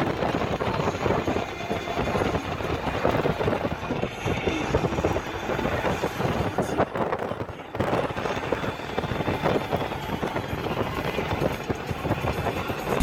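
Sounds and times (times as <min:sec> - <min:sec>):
moving vehicle rushing noise: 0:00.0 - 0:13.0
wind buffeting microphone: 0:00.0 - 0:13.0.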